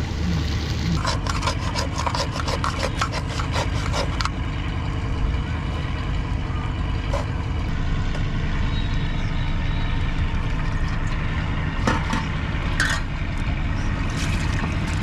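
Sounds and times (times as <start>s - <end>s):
motor droning: 0.0s - 15.0s.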